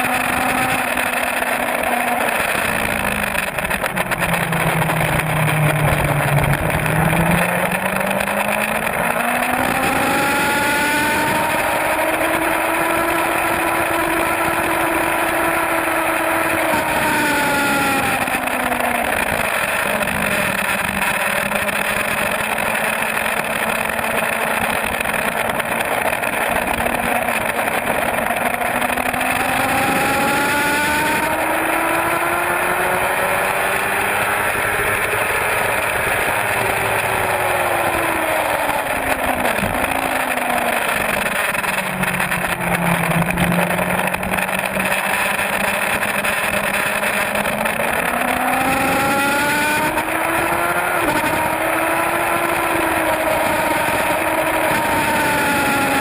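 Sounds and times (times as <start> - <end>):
wind roar: 0.0 - 22.2, 25.0 - 56.0
motorcycle engine revving: 0.0 - 56.0.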